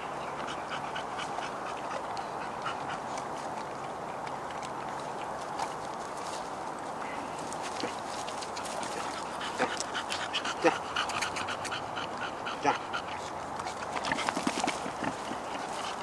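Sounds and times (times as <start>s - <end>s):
dogs panting: 0.0s - 5.5s, 7.5s - 16.0s.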